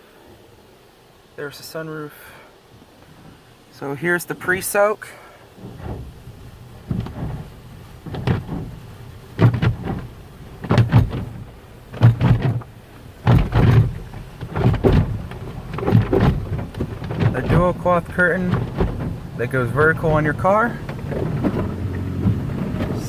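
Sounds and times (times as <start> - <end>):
car wash water surges: 0.0 - 23.0.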